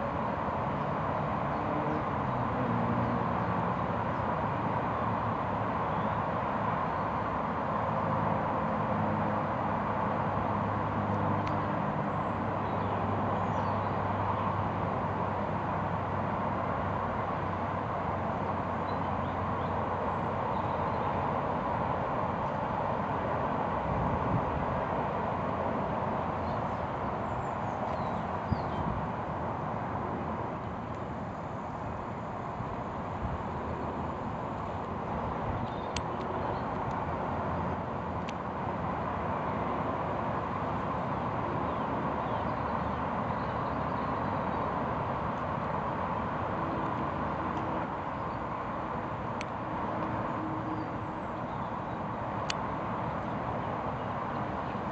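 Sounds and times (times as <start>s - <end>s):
outdoor rumble and hiss: 0.0s - 54.9s.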